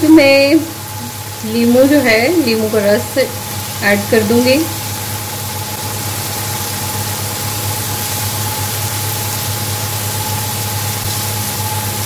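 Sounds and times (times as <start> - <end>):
food sizzling in a pan: 0.0 - 12.0
thin steady whine: 0.0 - 12.0.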